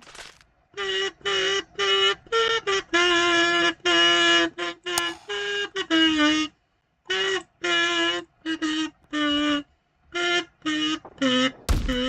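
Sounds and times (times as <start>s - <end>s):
buzzy reedy tune: 0.8s - 12.0s.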